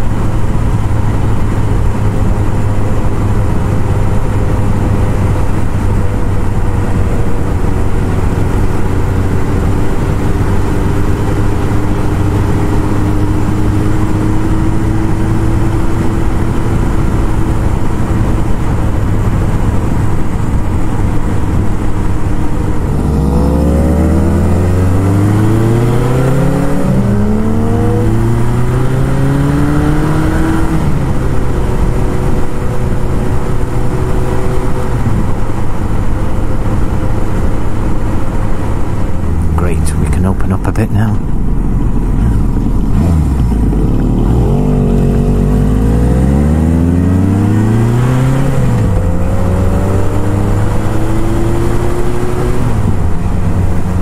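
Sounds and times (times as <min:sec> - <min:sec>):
motorcycle engine accelerating: 0:00.0 - 0:40.6, 0:41.2 - 0:54.0
wind noise: 0:00.0 - 0:54.0.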